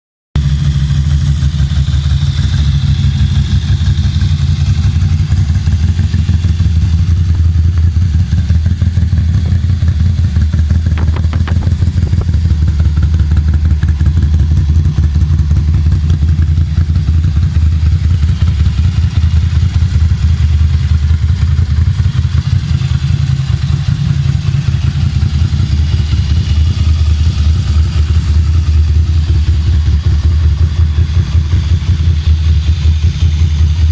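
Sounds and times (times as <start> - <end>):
motorcycle engine idling: 0.4 - 33.9.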